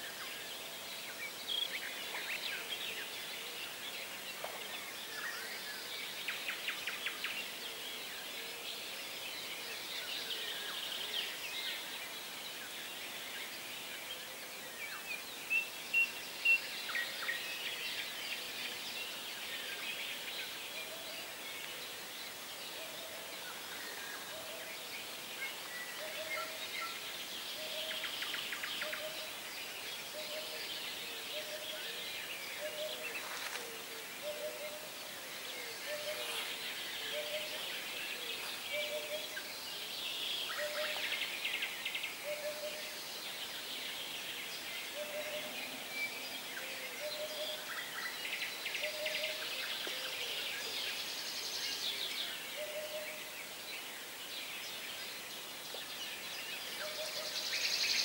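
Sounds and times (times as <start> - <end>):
songbirds singing and chirping: 0.0 - 58.0.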